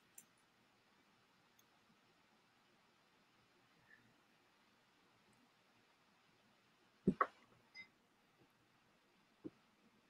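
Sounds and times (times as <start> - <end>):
faint noise floor hiss: 0.0 - 10.0.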